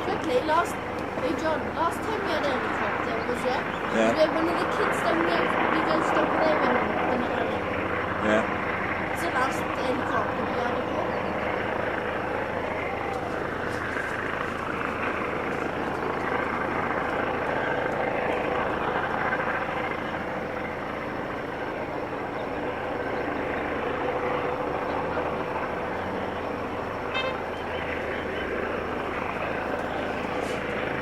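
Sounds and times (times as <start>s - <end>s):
helicopter droning: 0.0s - 31.0s.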